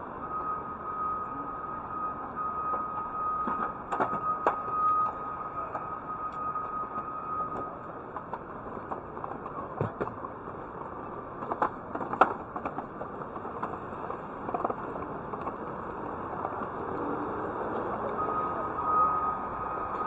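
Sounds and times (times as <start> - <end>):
traffic hum: 0.0 - 20.0.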